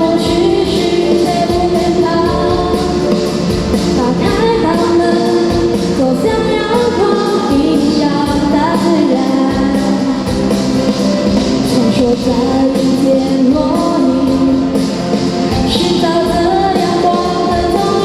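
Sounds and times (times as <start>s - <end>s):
woman singing over a beat: 0.0s - 10.5s, 11.7s - 18.0s.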